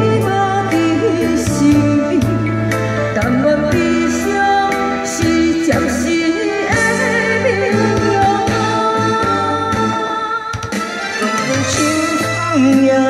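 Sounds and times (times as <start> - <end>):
backing track with steady beat: 0.0 - 13.0
woman singing: 0.0 - 13.0.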